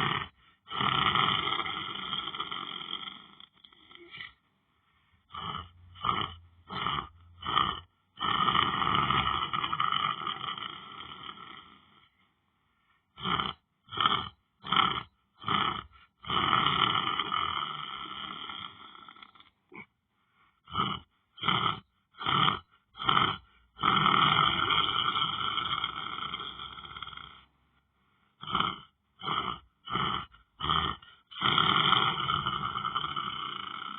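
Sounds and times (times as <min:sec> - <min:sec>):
loud rasping snoring: 0:00.0 - 0:04.4, 0:05.2 - 0:12.2, 0:13.1 - 0:19.9, 0:20.6 - 0:27.6, 0:28.4 - 0:33.9
short snorts: 0:00.0 - 0:04.4, 0:05.3 - 0:12.1, 0:13.2 - 0:19.9, 0:20.6 - 0:27.5, 0:28.4 - 0:33.9.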